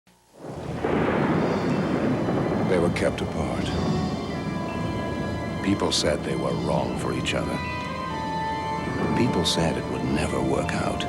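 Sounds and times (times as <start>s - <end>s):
thunder-like rumbling: 0.4s - 11.0s.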